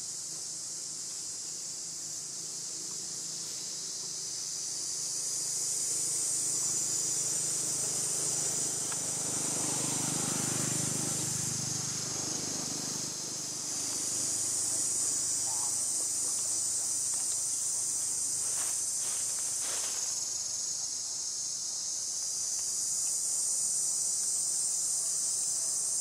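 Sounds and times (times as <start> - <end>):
shrill insect chorus: 0.0 - 26.0.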